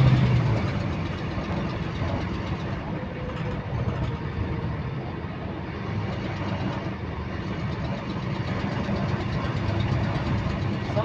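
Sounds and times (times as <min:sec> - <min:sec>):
repetitive engine clicking: 0:00.0 - 0:04.3, 0:06.0 - 0:11.0
bus engine running: 0:00.0 - 0:11.0.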